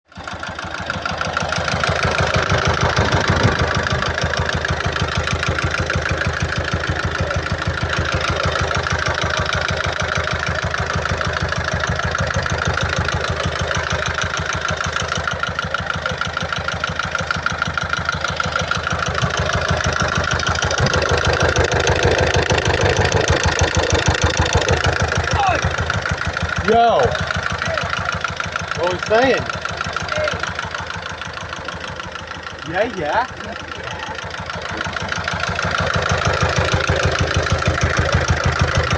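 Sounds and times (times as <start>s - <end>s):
diesel engine idling with knock: 0.1s - 38.9s.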